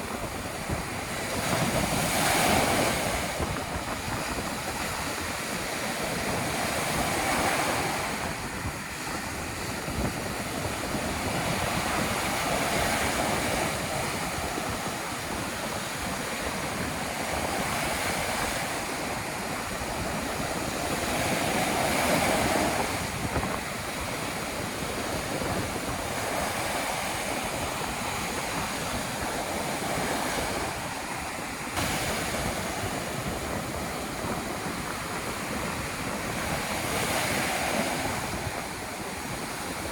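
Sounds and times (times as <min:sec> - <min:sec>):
waves breaking: 0:00.0 - 0:39.9
wind buffeting microphone: 0:00.0 - 0:39.9.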